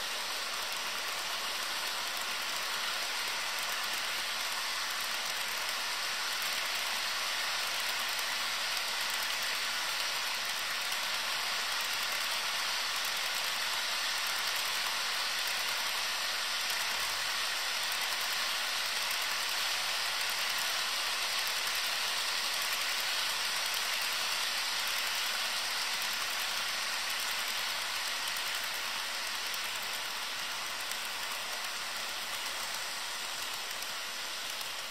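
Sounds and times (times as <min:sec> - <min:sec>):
model train wheels and motors: 0:00.0 - 0:34.9.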